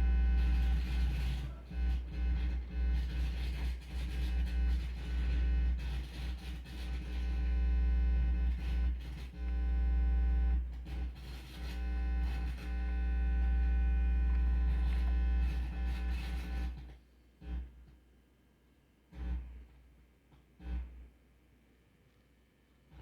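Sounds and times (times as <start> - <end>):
electrical hum through speakers: 0.0 - 23.0.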